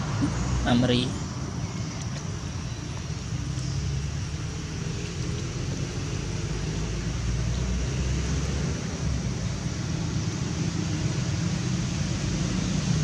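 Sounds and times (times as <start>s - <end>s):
outdoor background rumble and hiss: 0.0s - 13.0s.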